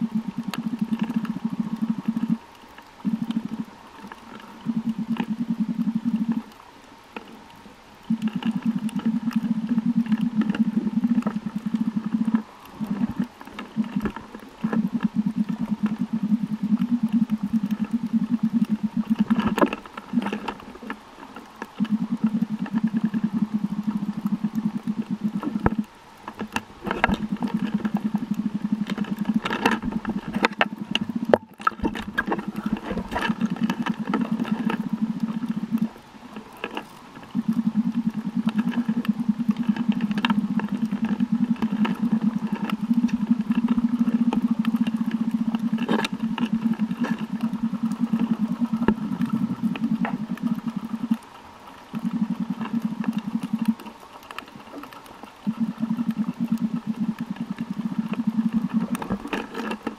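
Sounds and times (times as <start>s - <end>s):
underwater boat motor hum: 0.0s - 2.4s, 3.0s - 6.6s, 8.1s - 20.9s, 21.6s - 54.0s, 54.7s - 59.9s
sharp clicks and ticks: 0.0s - 6.6s, 8.0s - 59.9s.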